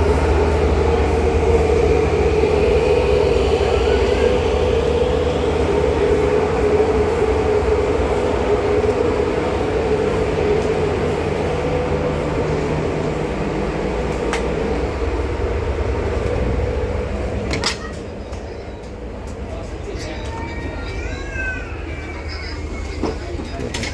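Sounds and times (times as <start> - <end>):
ship engines rumbling: 0.0 - 23.9.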